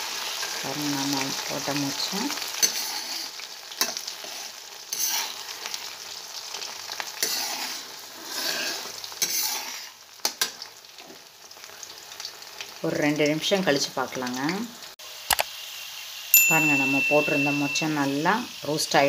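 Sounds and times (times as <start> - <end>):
beans sizzling in hot oil: 0.0 - 19.0.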